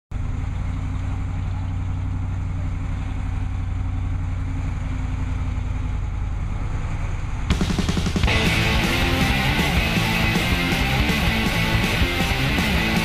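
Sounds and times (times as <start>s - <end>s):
vehicle engine idling: 0.1s - 13.0s.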